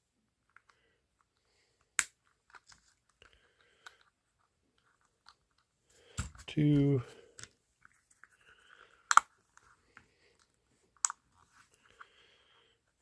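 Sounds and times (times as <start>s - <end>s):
faint rubbing and fiddling: 0.2s - 13.0s.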